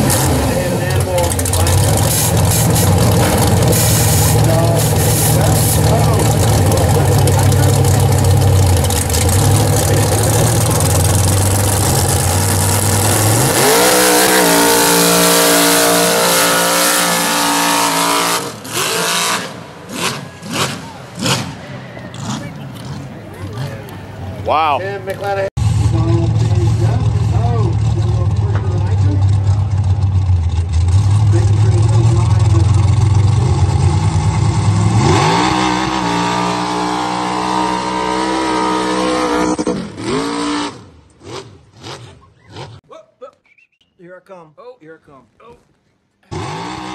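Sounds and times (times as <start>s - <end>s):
truck engine revving: 0.0s - 42.9s, 46.2s - 46.9s.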